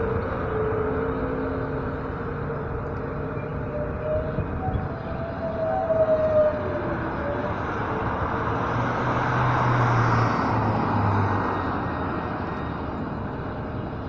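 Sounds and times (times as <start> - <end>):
electric train pulling in: 0.0 - 14.0.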